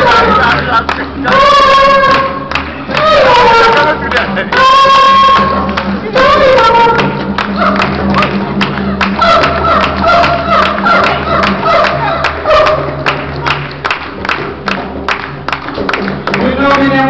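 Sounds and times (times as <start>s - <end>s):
hand drum patter: 0.0s - 17.0s.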